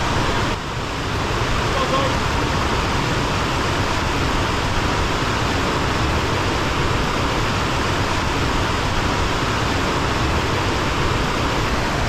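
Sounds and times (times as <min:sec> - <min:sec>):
waterfall and creek rushing: 0:00.0 - 0:12.0.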